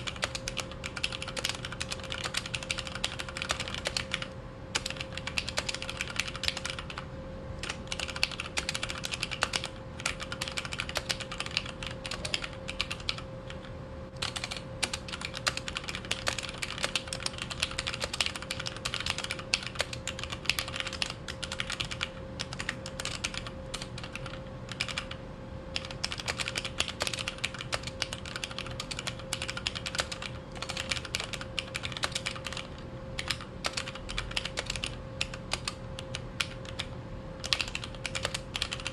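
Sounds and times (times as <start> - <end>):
mechanical keyboard typing: 0.0 - 7.0, 7.6 - 25.2, 25.8 - 38.9
faint steady hum: 0.0 - 38.9.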